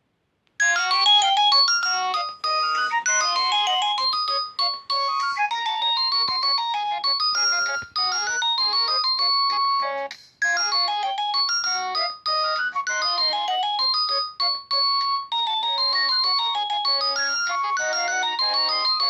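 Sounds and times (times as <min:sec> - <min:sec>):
synthesized phone ringtone: 0:00.6 - 0:19.0.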